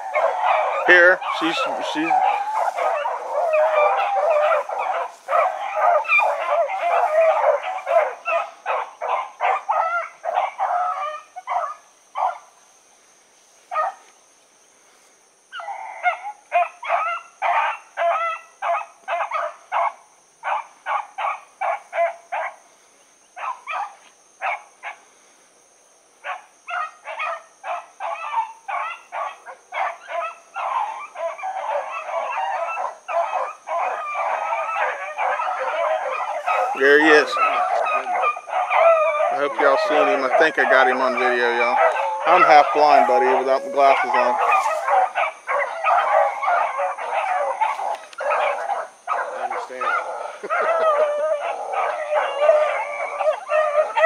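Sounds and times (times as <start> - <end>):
hounds baying: 0.0 - 12.6, 13.6 - 14.1, 15.5 - 25.1, 26.2 - 54.0.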